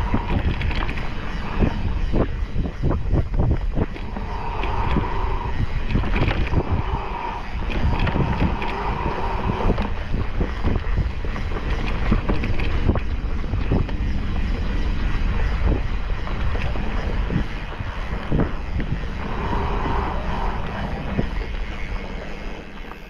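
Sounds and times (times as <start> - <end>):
bike rattling over bumps: 0.0 - 23.0
wind buffeting microphone: 0.0 - 23.0.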